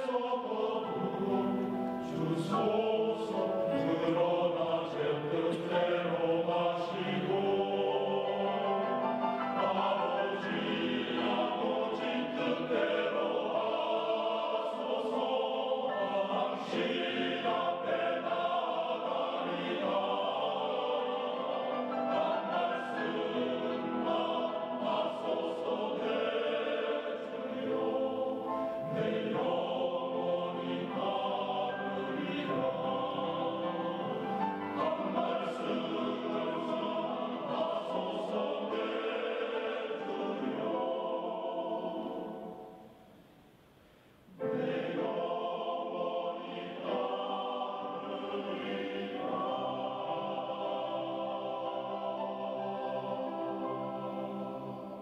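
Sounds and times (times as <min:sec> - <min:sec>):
choir singing: 0:00.0 - 0:43.4, 0:44.3 - 0:55.0.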